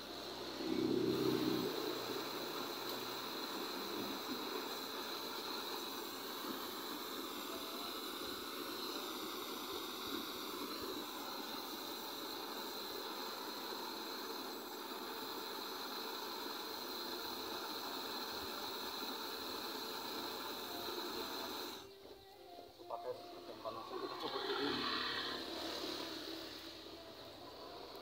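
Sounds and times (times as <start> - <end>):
flame hissing in exhaust: 0.0 - 28.0.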